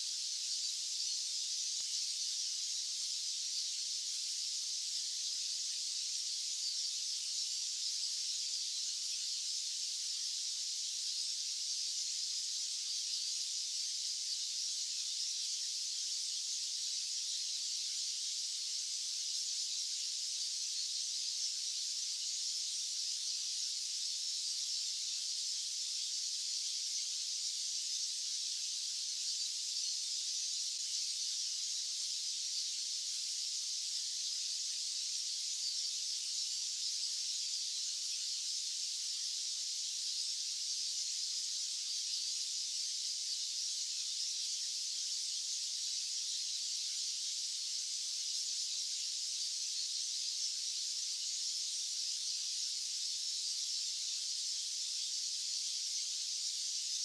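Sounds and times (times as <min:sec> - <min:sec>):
high-pitched white-noise hiss: 0:00.0 - 0:57.0.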